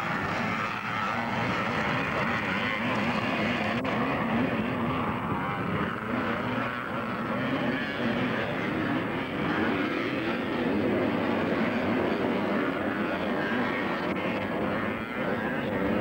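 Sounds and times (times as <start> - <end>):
motocross bikes racing: 0.0 - 16.0.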